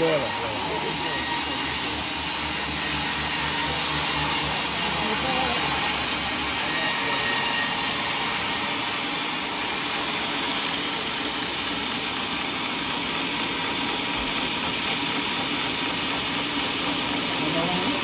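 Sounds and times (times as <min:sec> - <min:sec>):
sawmill machinery running: 0:00.0 - 0:18.0.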